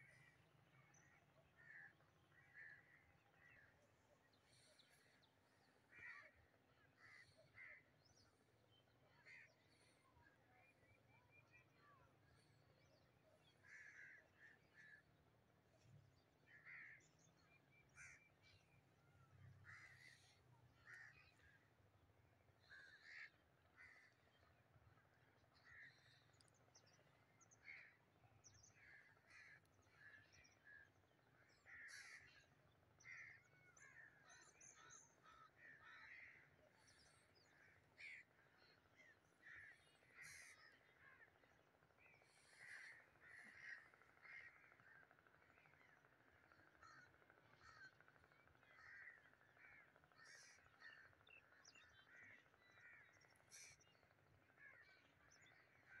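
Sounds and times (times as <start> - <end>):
faint bird calls: 0.0 - 56.0.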